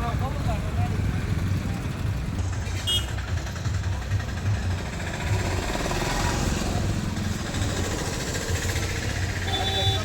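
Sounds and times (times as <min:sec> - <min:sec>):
street noise: 0:00.0 - 0:10.0
vehicle engine rumbling: 0:00.0 - 0:10.0.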